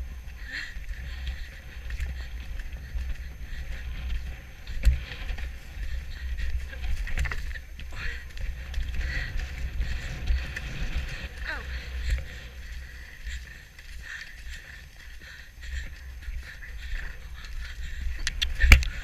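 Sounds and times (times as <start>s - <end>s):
low rumble on microphone: 0.0s - 19.0s.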